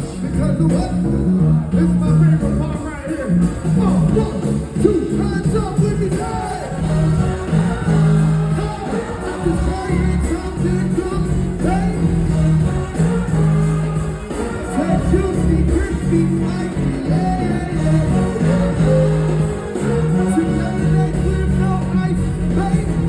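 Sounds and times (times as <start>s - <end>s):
live band playing: 0.0s - 23.0s
person singing: 0.0s - 23.0s.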